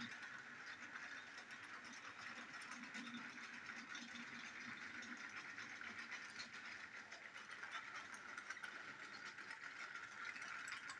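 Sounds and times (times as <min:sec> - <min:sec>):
toy train motor whir: 0:00.0 - 0:10.9
toy wagons rattling: 0:00.0 - 0:10.9.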